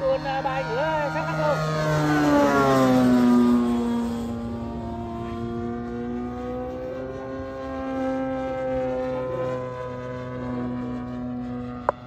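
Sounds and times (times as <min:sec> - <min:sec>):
model plane engine flying by: 0:00.0 - 0:12.0.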